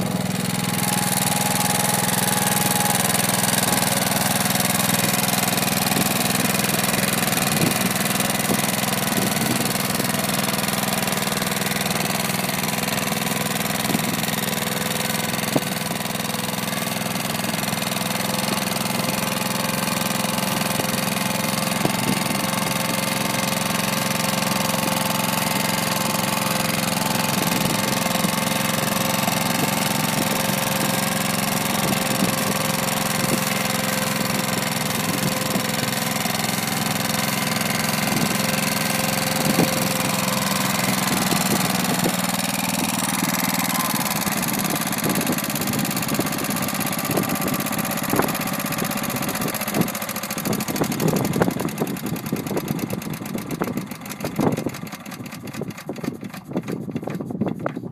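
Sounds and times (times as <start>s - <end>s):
tractor engine running under load: 0.0s - 57.9s.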